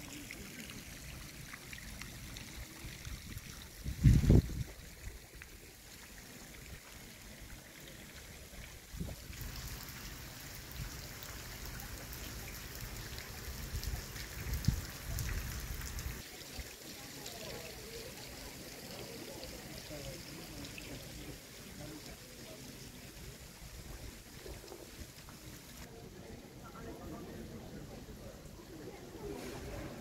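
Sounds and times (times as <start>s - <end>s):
faint voices: 0.0s - 9.3s, 11.0s - 30.0s
brine trickling like rain: 0.0s - 30.0s.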